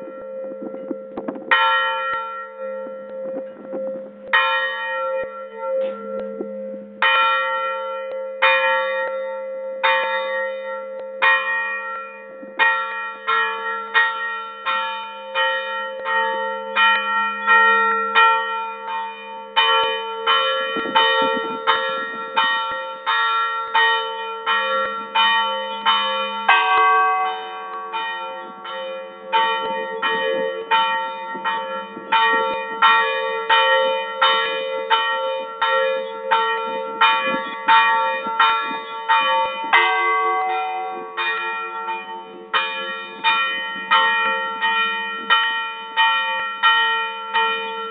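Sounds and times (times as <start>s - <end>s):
church bells ringing: 0.0s - 47.9s
lower bell ringing: 0.0s - 47.9s.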